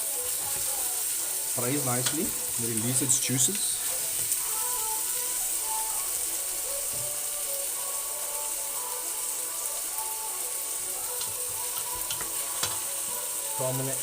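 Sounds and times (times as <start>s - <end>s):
faint music: 0.0s - 14.0s
vegetables sizzling in a pan: 0.0s - 14.0s.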